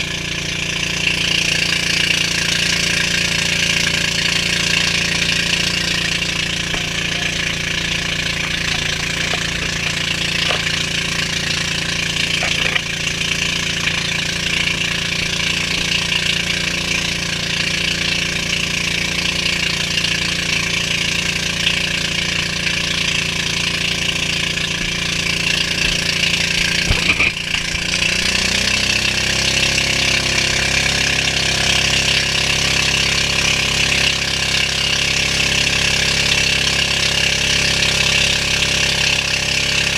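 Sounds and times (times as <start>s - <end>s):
boat engine running: 0.0s - 39.9s
water rushing past hull: 0.2s - 39.9s.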